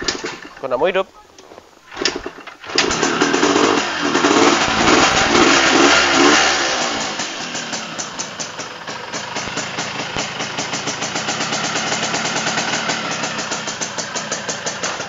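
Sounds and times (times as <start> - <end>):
two-stroke engine idling: 1.9 - 15.0.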